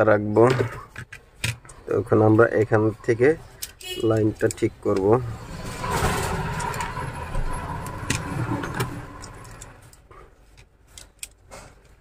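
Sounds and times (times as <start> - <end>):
plastic parts and wires clattering: 0.0 - 12.0.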